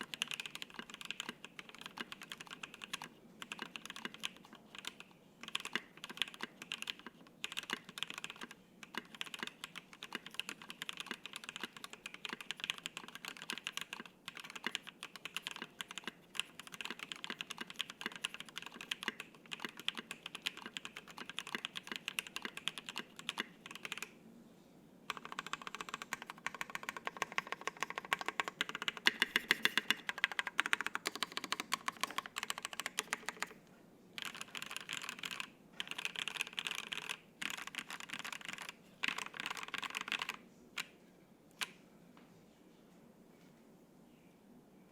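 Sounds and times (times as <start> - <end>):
mechanical keyboard typing: 0.0 - 24.1, 25.1 - 33.6, 34.2 - 40.9.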